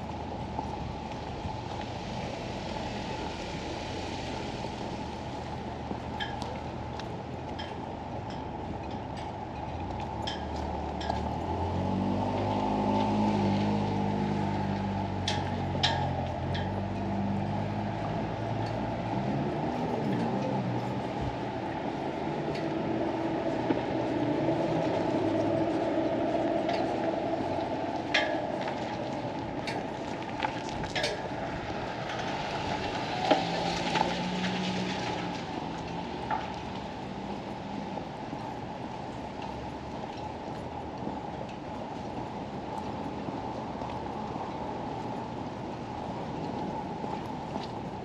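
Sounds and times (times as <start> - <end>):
outdoor harbor ambience: 0.0 - 48.0.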